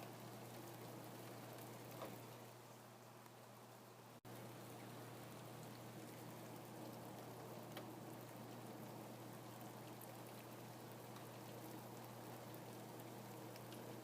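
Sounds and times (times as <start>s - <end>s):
rain falling: 0.0s - 14.0s
steady low hum: 0.0s - 14.0s.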